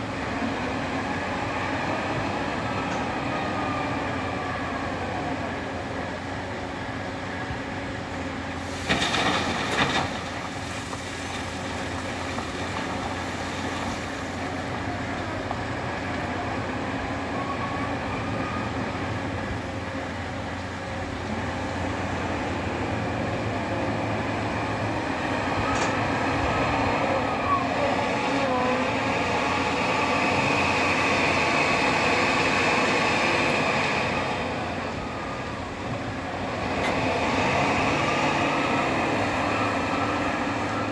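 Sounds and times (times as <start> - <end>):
truck engine and road rumble: 0.0 - 40.9.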